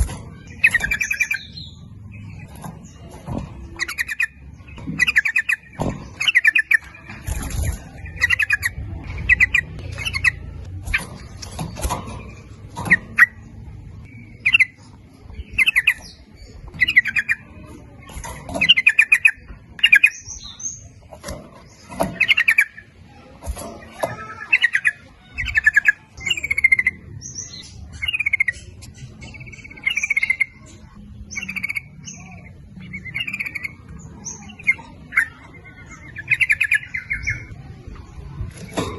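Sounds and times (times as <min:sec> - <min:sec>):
sharp clicking bird notes: 0:00.0 - 0:37.6
bulbuls singing: 0:00.0 - 0:38.9.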